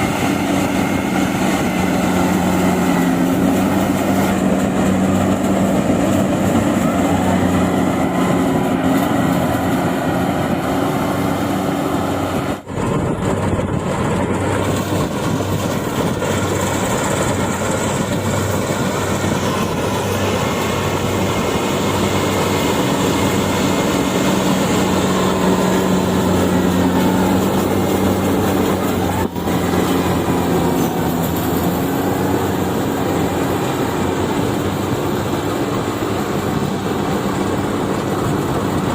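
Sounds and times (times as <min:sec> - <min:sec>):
combine harvester engine drone: 0:00.0 - 0:38.9
harvester machinery clatter: 0:00.0 - 0:38.9.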